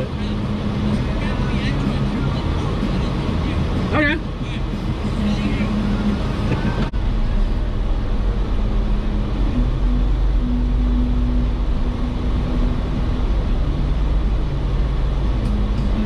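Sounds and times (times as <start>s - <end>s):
car engine running off-road: 0.0s - 16.0s.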